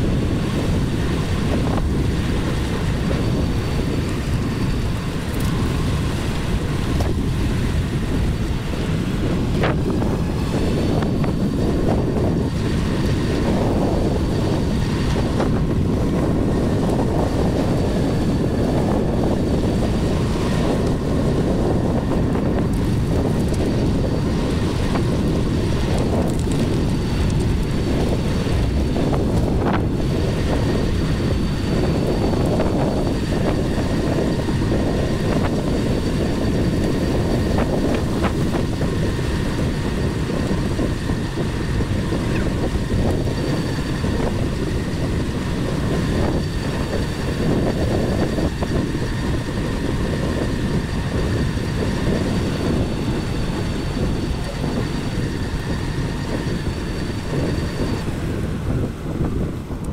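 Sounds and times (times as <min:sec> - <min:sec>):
faint high whine: 0:00.0 - 0:59.9
wind rush on microphone: 0:00.0 - 0:59.9.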